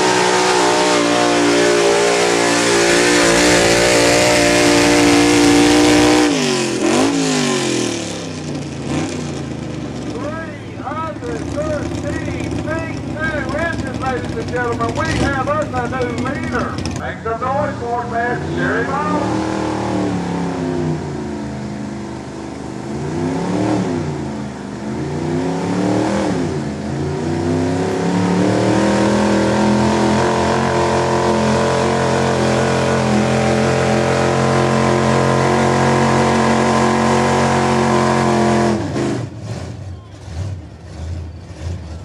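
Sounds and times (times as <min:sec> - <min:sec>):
pickup engine revving under load: 0:00.0 - 0:42.0.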